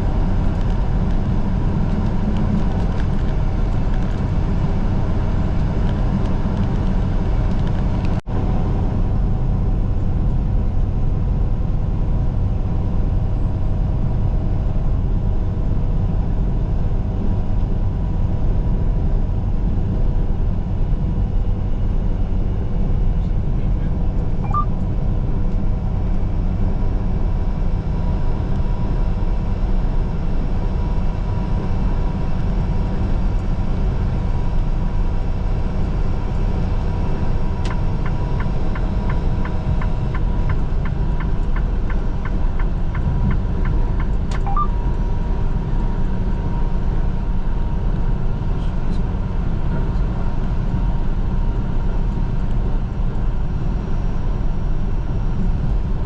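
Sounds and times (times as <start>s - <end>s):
truck driving at highway speed: 0.0s - 56.0s.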